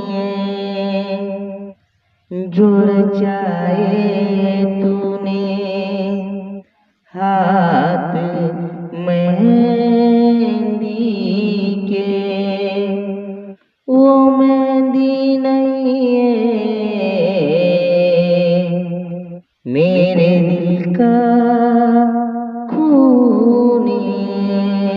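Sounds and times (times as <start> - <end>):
person singing long notes: 0.0 - 24.9.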